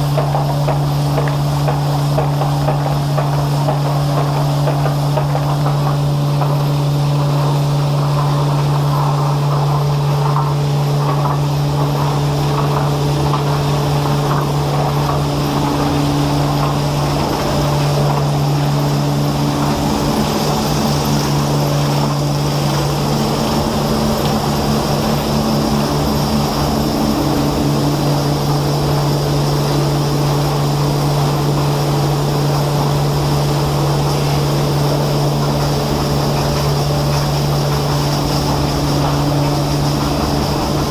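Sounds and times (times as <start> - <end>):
machinery humming: 0.0 - 40.9.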